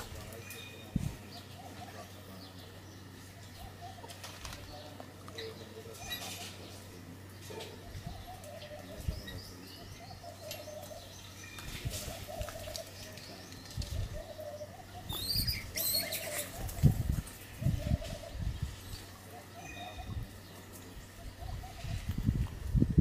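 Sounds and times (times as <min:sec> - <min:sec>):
doves cooing: 0:00.0 - 0:22.7.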